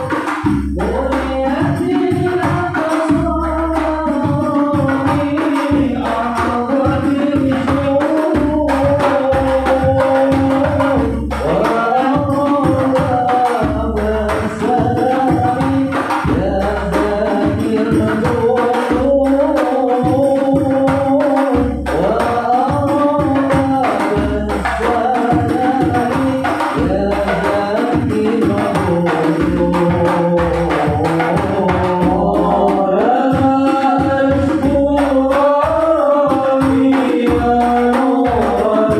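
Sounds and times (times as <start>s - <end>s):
hand drum percussion: 0.0s - 38.9s
person singing devotional song: 0.0s - 38.9s.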